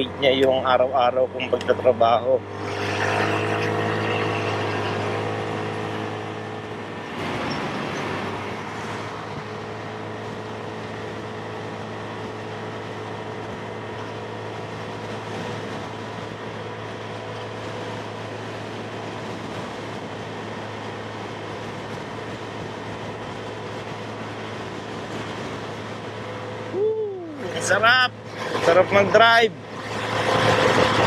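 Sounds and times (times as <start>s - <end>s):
motorcycle engine hum: 0.0s - 31.0s
riding wind rush: 0.0s - 31.0s.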